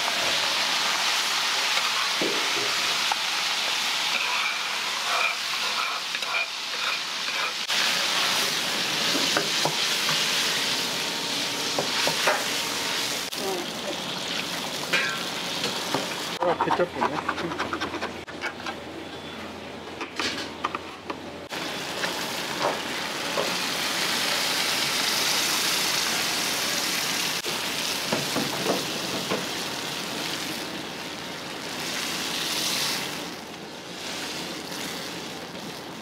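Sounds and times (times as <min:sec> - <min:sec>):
sauce sizzling in a wok: 0:00.0 - 0:16.4, 0:21.5 - 0:36.0.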